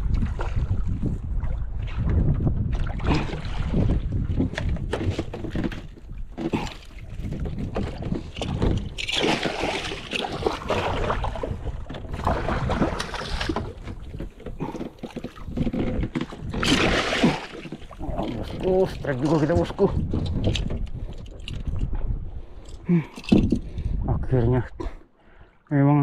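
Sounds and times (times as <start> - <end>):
wind buffeting microphone: 0.0 - 9.1, 10.3 - 14.7, 15.4 - 25.0
water sloshing against boat hull: 0.0 - 25.7.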